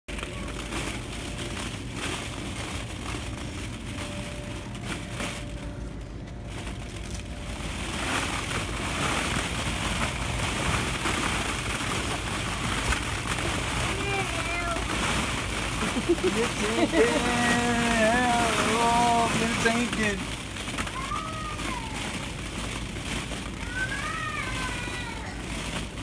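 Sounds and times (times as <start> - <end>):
plastic balls rustling and clattering: 0.1 - 26.0.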